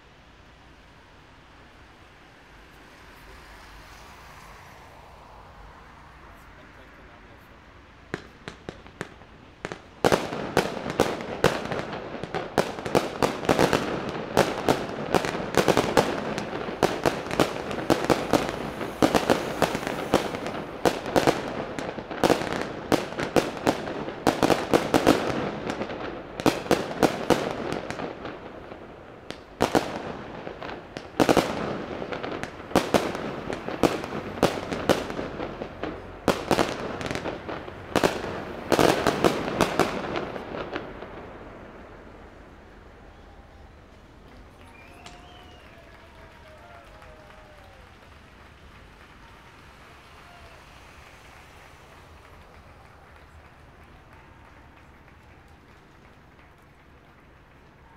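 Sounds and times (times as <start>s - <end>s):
fireworks bursts and crackling: 0.0s - 57.9s.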